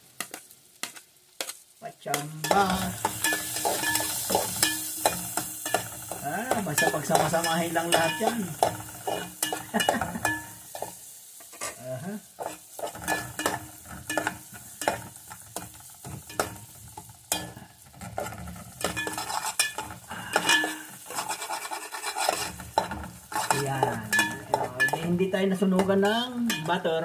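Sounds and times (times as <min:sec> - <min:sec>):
light frying sizzle: 0:00.0 - 0:27.0
metal spoon scraping a pot: 0:00.2 - 0:11.8, 0:12.4 - 0:27.0.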